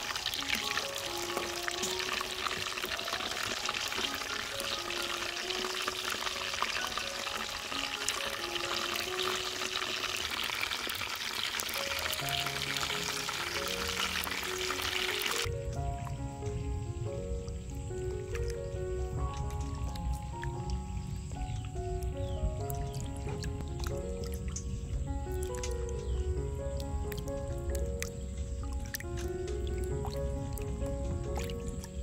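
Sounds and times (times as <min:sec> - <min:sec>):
light background music: 0:00.0 - 0:10.4, 0:11.7 - 0:32.0
fish deep-frying in hot oil: 0:00.0 - 0:32.0.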